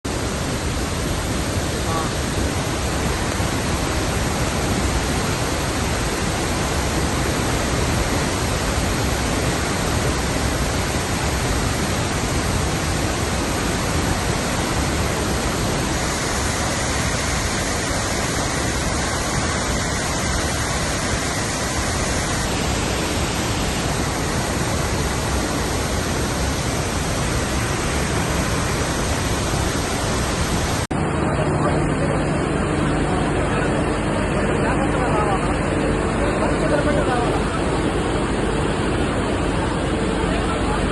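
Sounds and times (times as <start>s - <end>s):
heavy rain: 0.0s - 40.9s
floodwater rushing: 0.1s - 40.9s.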